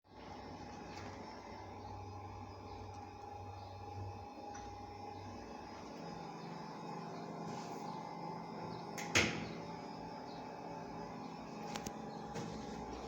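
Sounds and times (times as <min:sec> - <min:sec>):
washing machine humming: 0:00.1 - 0:13.0.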